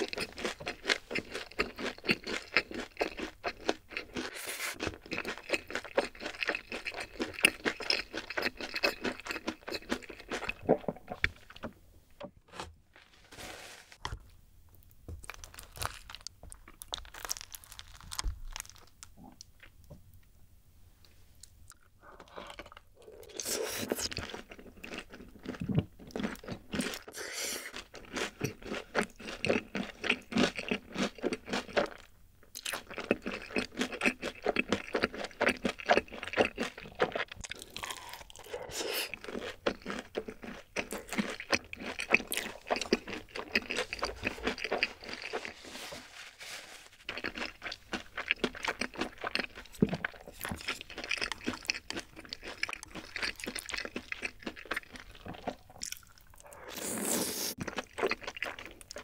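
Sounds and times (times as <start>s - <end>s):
crunchy wet chewing: 0.0s - 11.6s, 21.7s - 45.6s, 47.0s - 59.0s.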